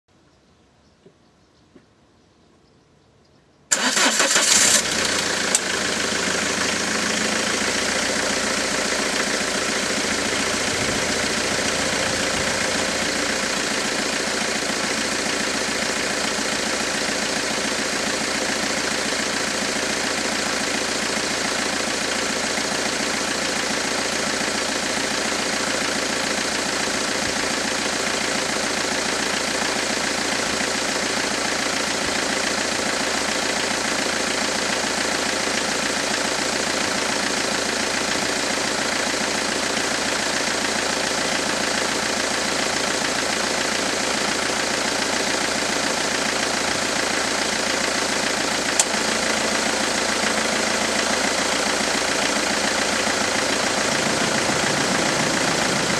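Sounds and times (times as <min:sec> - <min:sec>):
diesel engine cranking and idling: 0:03.7 - 0:55.9.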